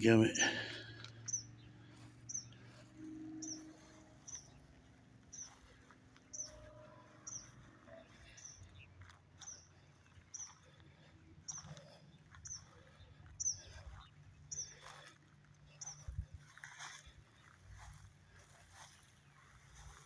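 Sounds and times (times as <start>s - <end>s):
bird chirping: 0.1s - 20.0s.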